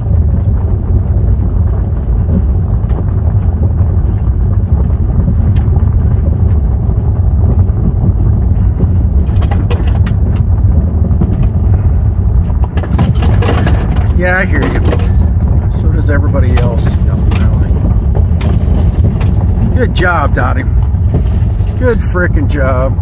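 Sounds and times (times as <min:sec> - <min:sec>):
car rumbling on gravel: 0:00.0 - 0:23.0.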